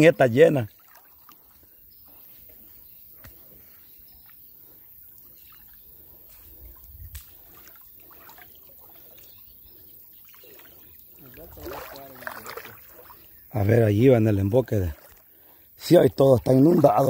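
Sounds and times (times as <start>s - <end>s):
person wading through water: 0.0s - 15.8s.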